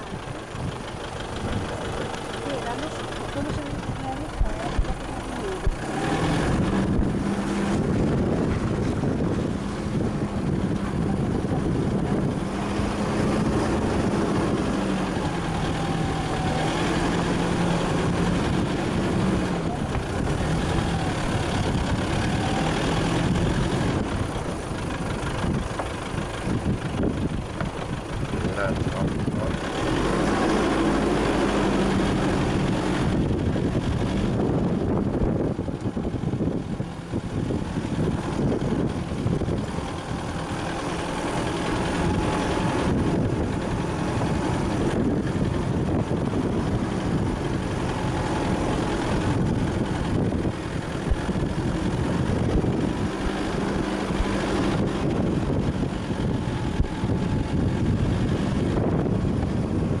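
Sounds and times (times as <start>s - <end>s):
vehicle engine running: 0.0s - 60.0s
vehicle rattling over dirt and stones: 0.0s - 60.0s.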